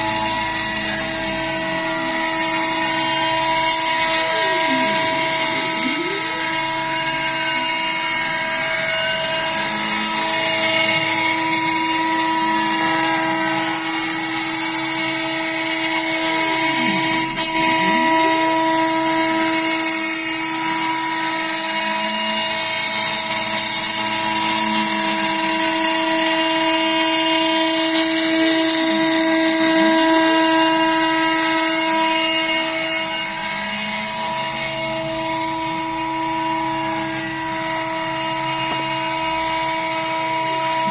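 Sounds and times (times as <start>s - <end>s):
router spindle whine: 0.0s - 40.9s
swooping machine tones: 0.0s - 40.9s.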